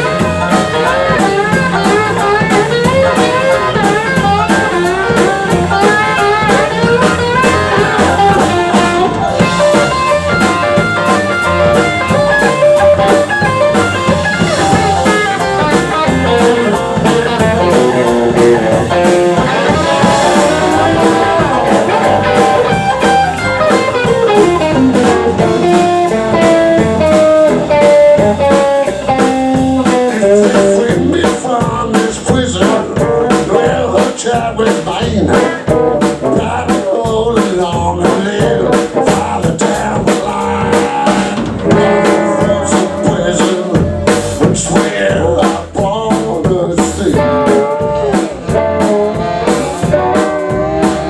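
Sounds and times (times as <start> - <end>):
lead guitar: 0.0 - 33.9, 35.0 - 36.6, 38.1 - 45.2, 47.0 - 51.0
drum-kit beat: 0.0 - 51.0.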